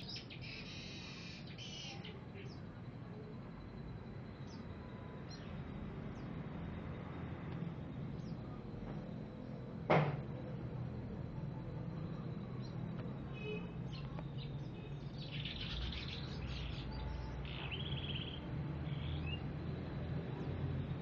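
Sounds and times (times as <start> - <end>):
songbird chirping and twittering: 0.0 - 21.0
steady low hum: 0.0 - 21.0.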